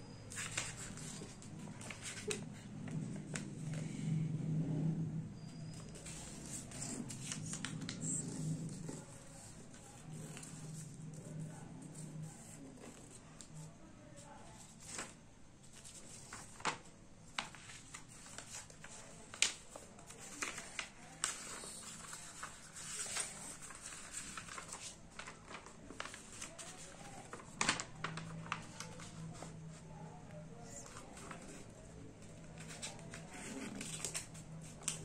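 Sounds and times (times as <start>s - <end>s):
paper being folded and creased: 0.3s - 3.9s, 5.8s - 13.7s, 14.4s - 35.0s.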